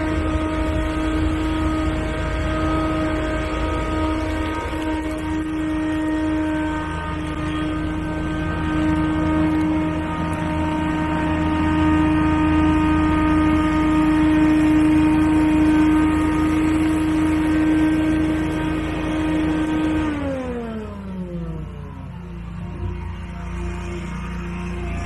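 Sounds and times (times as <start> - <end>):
gas engine running and winding down: 0.0 - 25.0.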